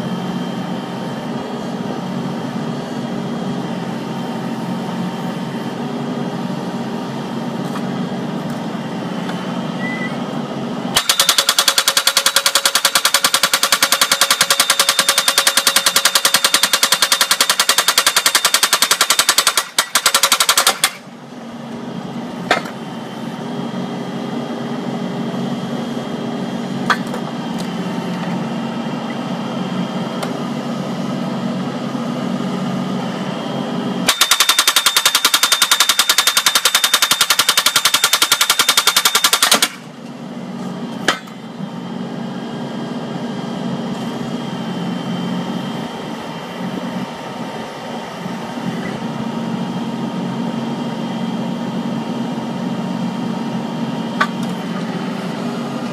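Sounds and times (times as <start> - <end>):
backhoe engine running: 0.0 - 55.9.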